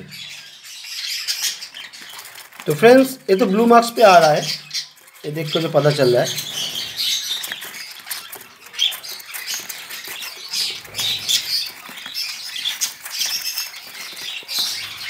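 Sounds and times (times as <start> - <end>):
bird chicks squeaking: 0.0 - 15.0.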